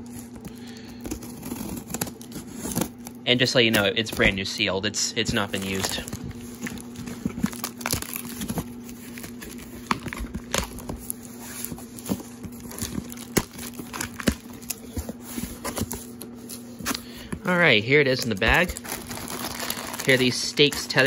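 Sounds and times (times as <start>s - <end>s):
packing tape tearing off cardboard: 0.0s - 4.4s, 5.4s - 17.3s, 18.1s - 21.0s
cardboard flaps rustling and scraping: 0.0s - 21.0s
faint steady hum: 0.0s - 21.0s.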